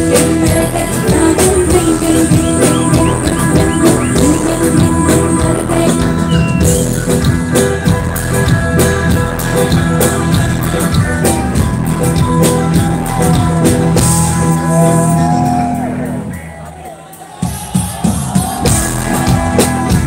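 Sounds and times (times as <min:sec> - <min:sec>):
live band playing loud music: 0:00.0 - 0:20.0
steady drum beat: 0:00.0 - 0:20.0.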